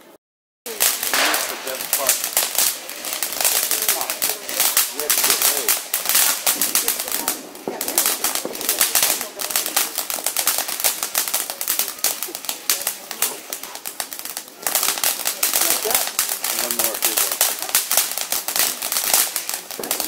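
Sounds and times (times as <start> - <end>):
fireworks crackling and hissing: 0.0 - 20.0.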